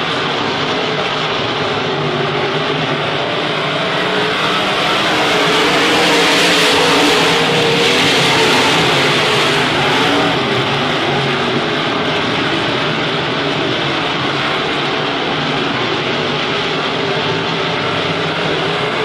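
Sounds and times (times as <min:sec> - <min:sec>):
race car engines running: 0:00.0 - 0:19.0.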